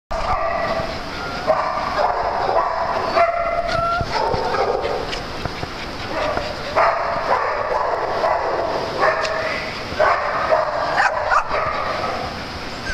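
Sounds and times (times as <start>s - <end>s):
small dogs barking and yipping: 0.1s - 12.9s.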